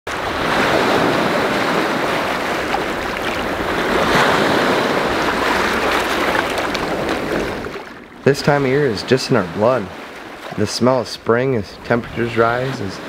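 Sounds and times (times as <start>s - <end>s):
lake waves breaking on rocks: 0.1s - 13.0s.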